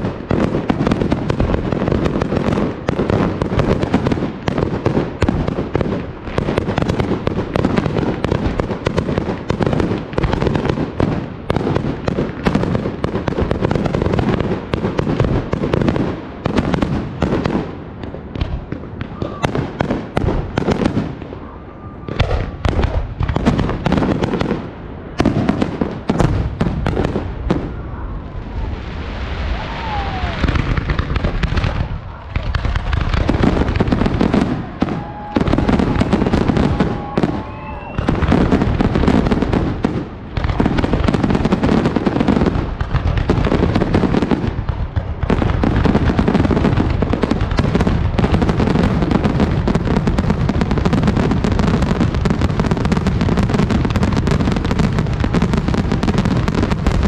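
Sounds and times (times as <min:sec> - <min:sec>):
fireworks bursting with crackle: 0:00.0 - 0:57.0.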